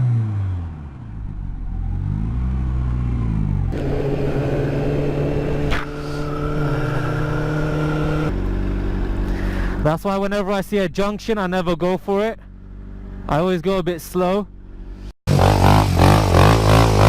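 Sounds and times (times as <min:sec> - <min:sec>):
engine droning: 0:00.0 - 0:17.0
vehicle engines in traffic: 0:00.0 - 0:17.0.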